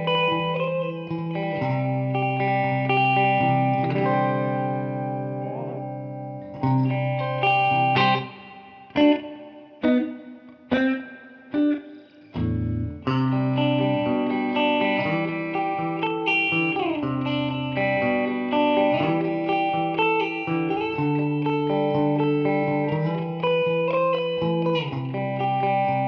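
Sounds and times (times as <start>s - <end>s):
electric guitar with delay: 0.0s - 26.0s.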